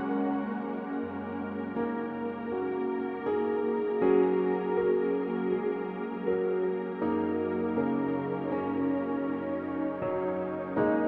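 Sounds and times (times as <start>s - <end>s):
ambient music with held chords: 0.0s - 11.0s.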